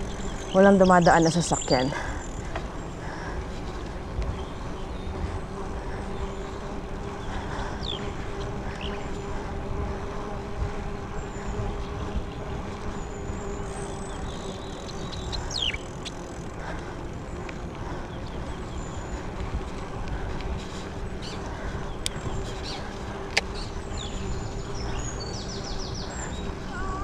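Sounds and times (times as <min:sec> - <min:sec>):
bicycle tyres on asphalt: 0:00.0 - 0:27.0.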